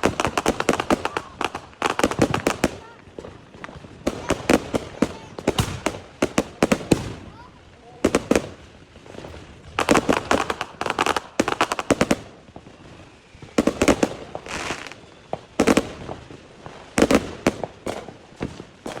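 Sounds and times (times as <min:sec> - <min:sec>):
fireworks cracking and popping: 0:00.0 - 0:19.0.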